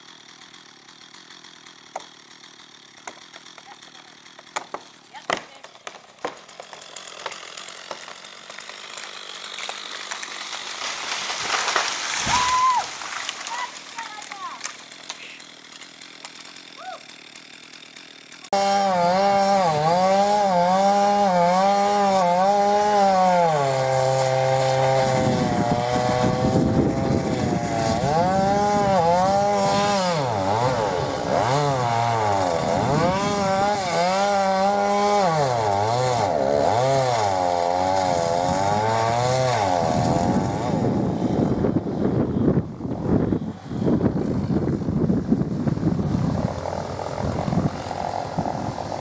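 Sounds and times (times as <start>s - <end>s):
chainsaw cutting into trunk: 0.0s - 49.0s.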